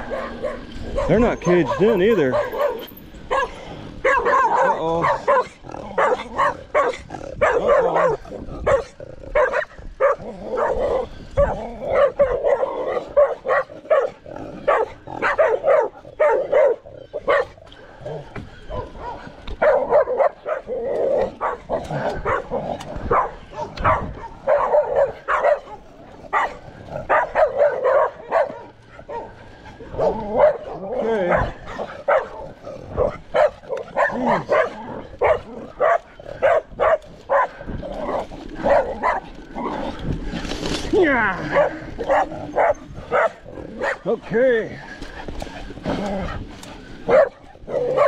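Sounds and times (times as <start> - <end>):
dogs barking: 0.0 - 40.2, 41.4 - 48.0.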